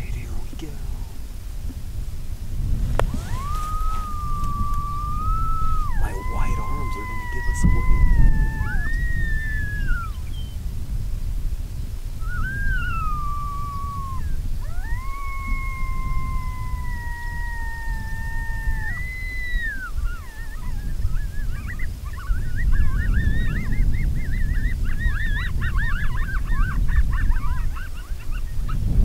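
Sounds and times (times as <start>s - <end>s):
coyotes yipping and warbling: 2.9s - 10.6s, 12.2s - 29.0s
coyote howling: 3.0s - 10.6s, 12.2s - 28.9s.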